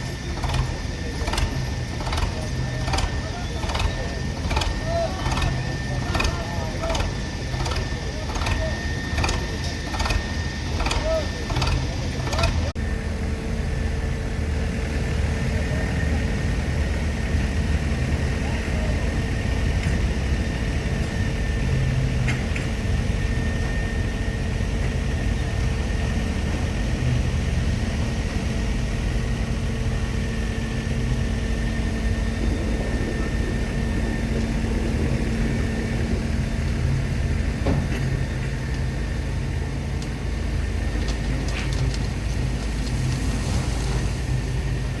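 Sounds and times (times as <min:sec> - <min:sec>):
tractor diesel engine rumbling: 0:00.0 - 0:21.0, 0:21.6 - 0:45.0.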